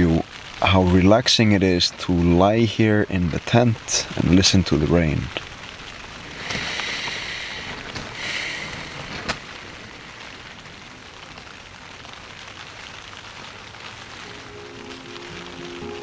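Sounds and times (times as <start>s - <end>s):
rain pattering on tent fabric: 0.0s - 16.0s.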